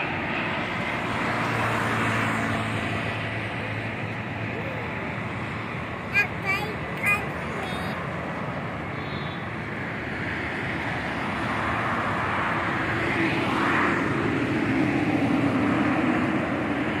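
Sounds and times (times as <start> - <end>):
bus passing: 0.0 - 17.0
road traffic passing: 0.0 - 17.0
turboprop airliner engine drone: 0.0 - 17.0.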